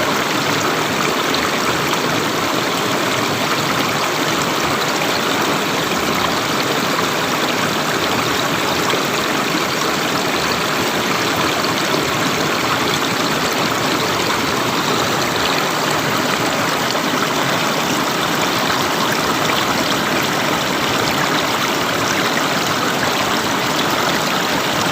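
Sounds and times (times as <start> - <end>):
river water rushing: 0.0 - 24.9.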